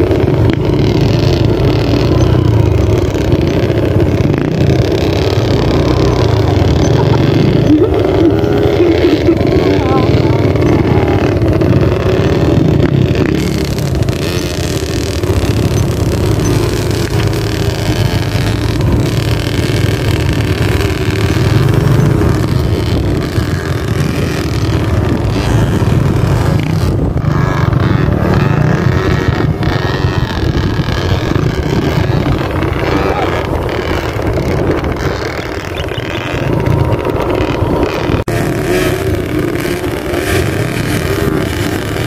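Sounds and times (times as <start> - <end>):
dirt bike engines running: 0.0 - 42.0.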